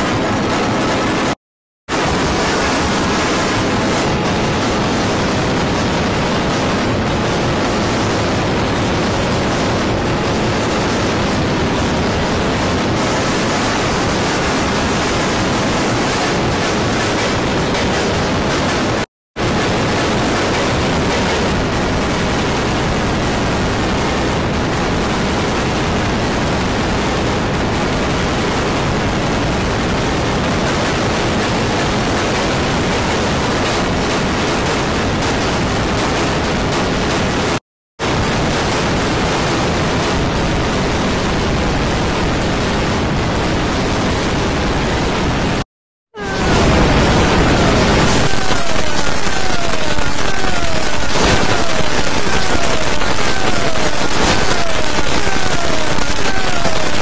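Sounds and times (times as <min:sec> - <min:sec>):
loud static noise: 0:00.0 - 0:45.6, 0:46.2 - 0:57.0.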